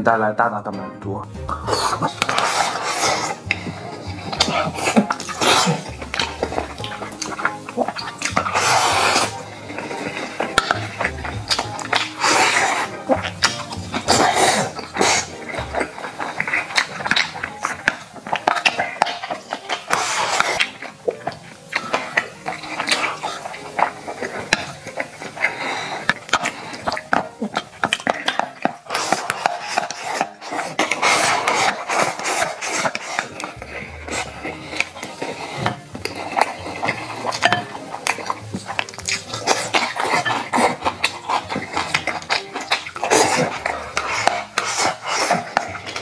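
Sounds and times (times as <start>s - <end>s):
chewing: 1.4s - 46.0s
slurping noodles: 1.4s - 46.0s.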